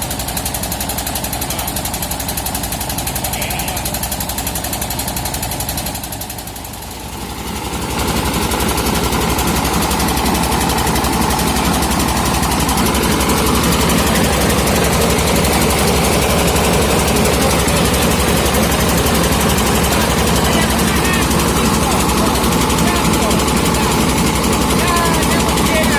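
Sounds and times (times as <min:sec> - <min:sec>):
rice milling machine chugging: 0:00.0 - 0:25.9.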